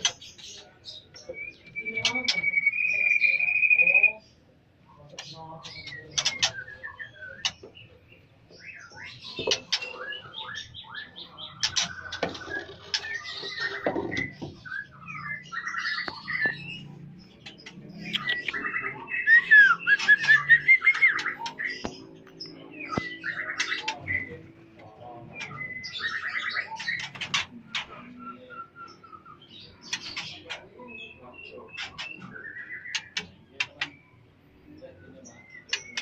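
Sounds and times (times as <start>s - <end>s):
flock of birds chirping: 0.0s - 36.0s.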